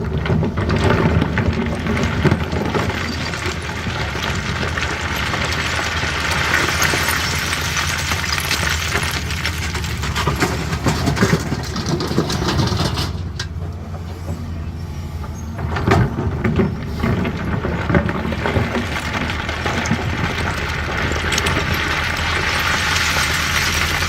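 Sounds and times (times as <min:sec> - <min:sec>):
excavator diesel engine: 0:00.0 - 0:24.0
stones clattering: 0:00.4 - 0:13.5, 0:16.0 - 0:24.0.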